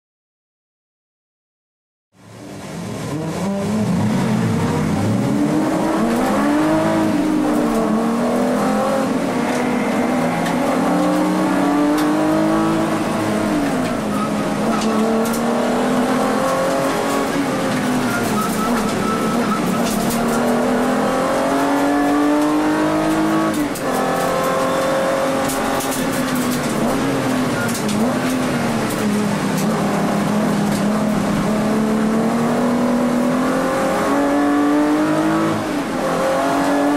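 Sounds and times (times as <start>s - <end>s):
race car engine revving: 2.5s - 36.9s.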